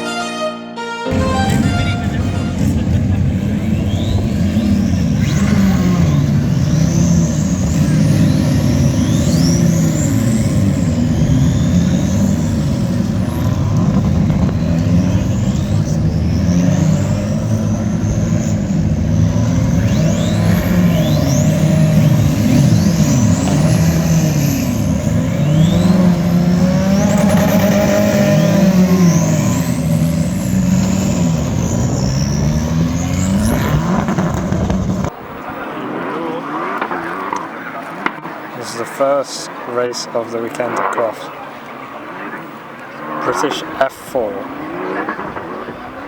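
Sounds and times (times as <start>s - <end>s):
high engine whine: 0.9s - 46.0s
race car engines revving: 1.1s - 46.0s.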